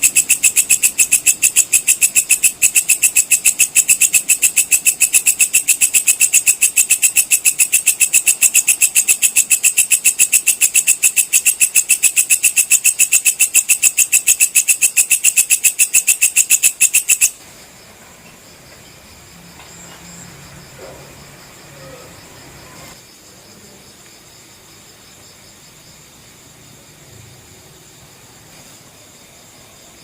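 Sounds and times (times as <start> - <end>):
insect chirping pulses: 0.0 - 30.0.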